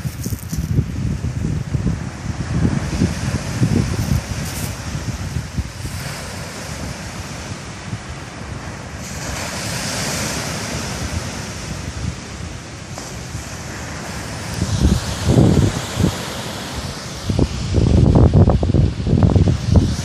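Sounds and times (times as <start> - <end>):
surf washing on shore: 0.0 - 20.0
wind rumbling on microphone: 0.0 - 20.0.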